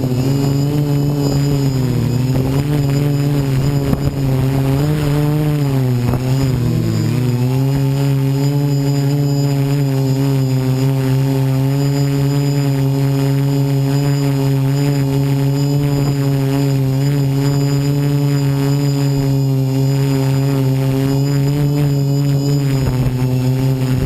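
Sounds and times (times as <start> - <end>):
quadcopter motors humming: 0.0 - 24.0.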